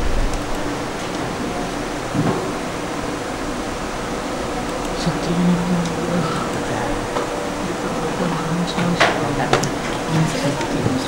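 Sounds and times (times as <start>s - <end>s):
room hum and hiss of computers: 0.0s - 11.0s.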